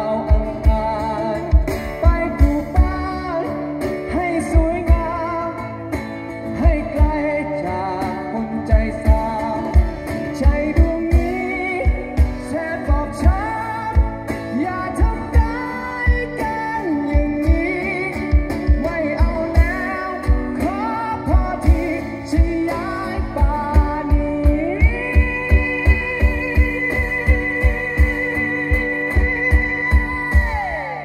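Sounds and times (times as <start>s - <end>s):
live acoustic band with singing: 0.0s - 31.0s.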